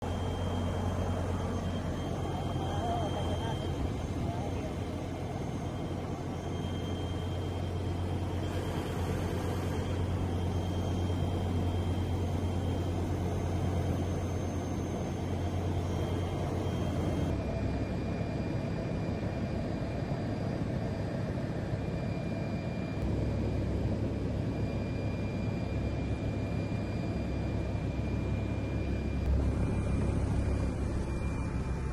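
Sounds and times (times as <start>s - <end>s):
aircraft engine drone: 0.0s - 31.9s.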